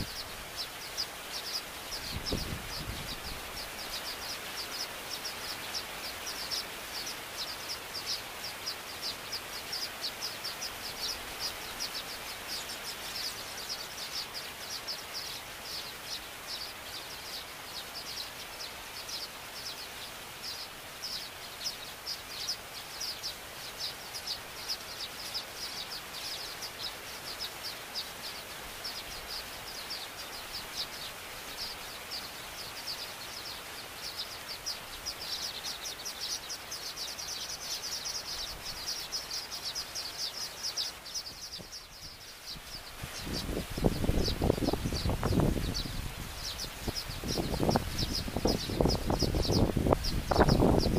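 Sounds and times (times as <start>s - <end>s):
birds chattering: 0.0s - 50.9s
outdoor hiss: 0.0s - 50.9s.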